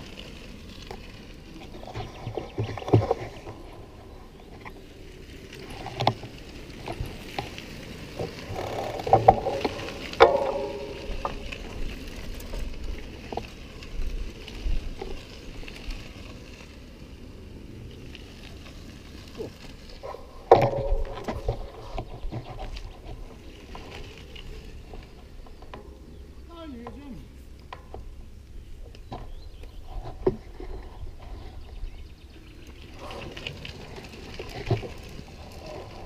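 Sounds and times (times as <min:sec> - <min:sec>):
bike rattling and knocking: 0:00.0 - 0:17.0, 0:17.7 - 0:36.0
bike tyres rumbling on dirt: 0:00.0 - 0:36.0
wind: 0:00.0 - 0:36.0.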